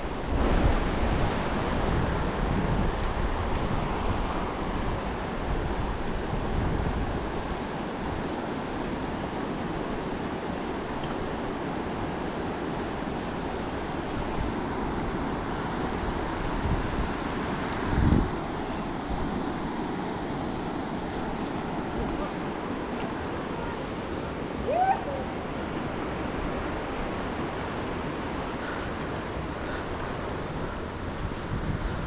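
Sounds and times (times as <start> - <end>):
wind buffeting microphone: 0.0 - 8.4, 13.4 - 32.0
river rapids rushing: 0.0 - 32.0.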